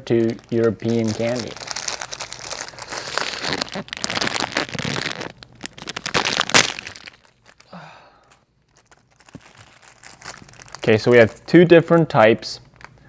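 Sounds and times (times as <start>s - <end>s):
candy packaging crinkling: 0.0s - 11.7s, 12.6s - 13.0s.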